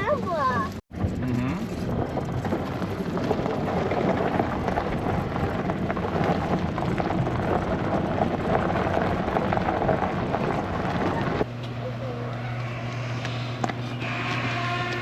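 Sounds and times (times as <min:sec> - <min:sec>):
farm vehicle engine rumble: 0:00.0 - 0:15.0.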